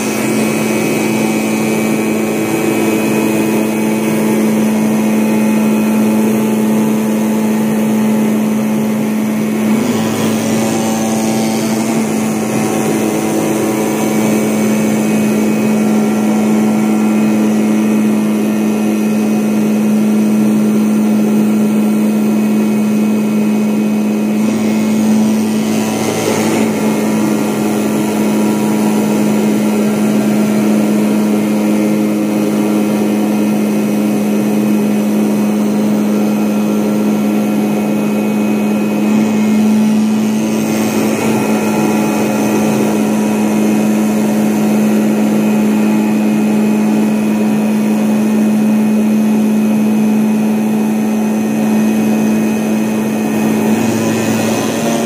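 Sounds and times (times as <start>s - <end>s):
cutting machine humming: 0.0s - 55.0s.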